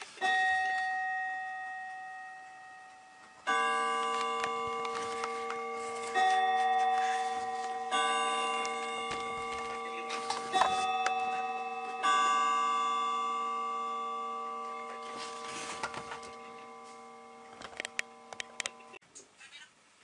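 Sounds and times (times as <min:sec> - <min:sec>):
bell-like chime tones: 0:00.0 - 0:19.0.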